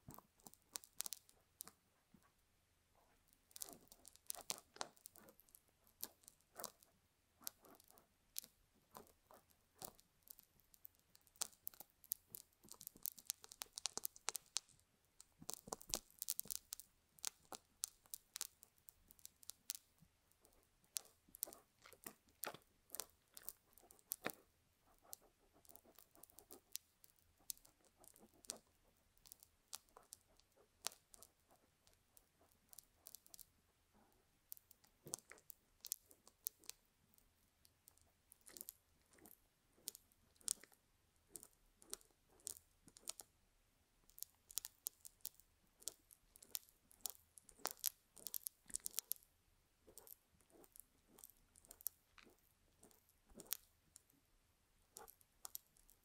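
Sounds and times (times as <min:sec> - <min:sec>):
tweezers in sticky paste crackling: 0:00.0 - 0:01.8, 0:03.0 - 0:43.4, 0:44.0 - 0:54.2, 0:54.8 - 0:56.0.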